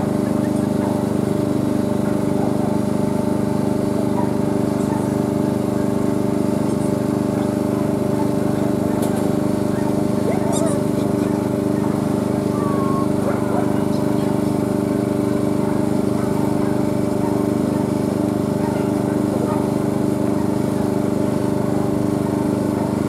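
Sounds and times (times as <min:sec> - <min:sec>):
small engine droning: 0:00.0 - 0:23.0.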